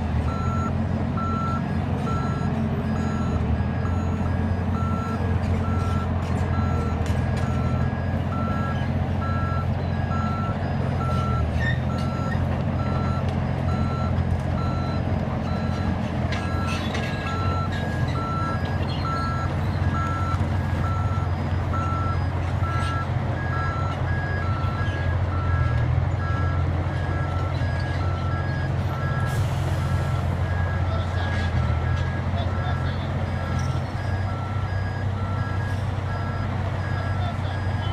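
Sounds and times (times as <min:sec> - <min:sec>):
diesel engine running: 0:00.0 - 0:37.9
reversing alarm beeping: 0:00.3 - 0:37.9.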